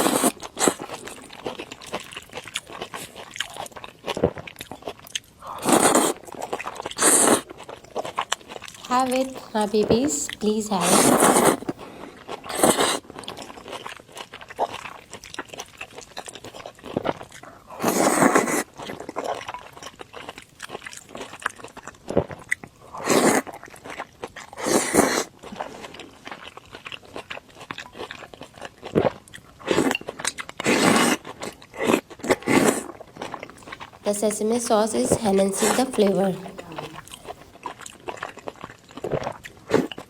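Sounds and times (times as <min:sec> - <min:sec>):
chewing and mouth clicks: 0:00.0 - 0:09.4, 0:10.3 - 0:34.0, 0:35.0 - 0:40.0.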